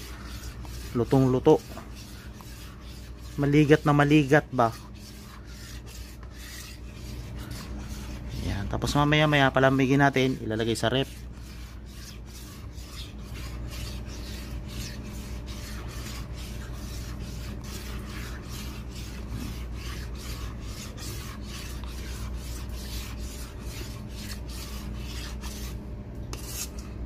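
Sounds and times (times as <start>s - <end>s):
spatula scraping thick pudding: 0.0s - 27.0s.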